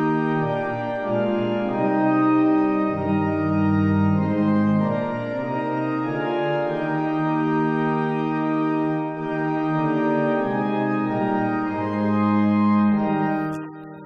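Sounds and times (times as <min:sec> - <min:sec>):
deep organ bass notes: 0:00.0 - 0:14.0
organ playing slow chords: 0:00.0 - 0:14.0.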